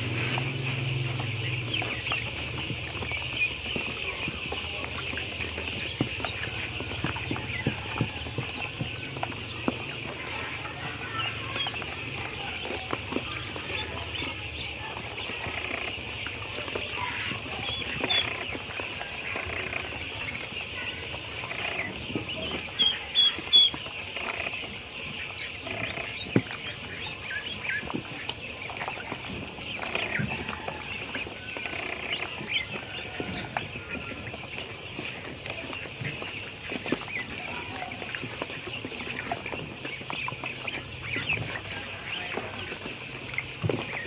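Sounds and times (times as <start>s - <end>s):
ducklings peeping: 0.0s - 44.0s
small water splashes: 0.0s - 44.0s.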